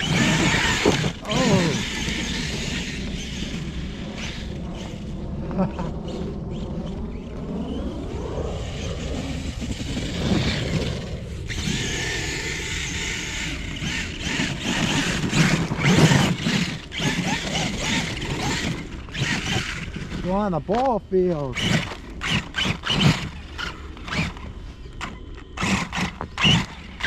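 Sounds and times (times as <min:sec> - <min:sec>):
electric motor whining: 0:00.0 - 0:20.4, 0:21.5 - 0:27.0
tires churning through snow: 0:00.0 - 0:27.0.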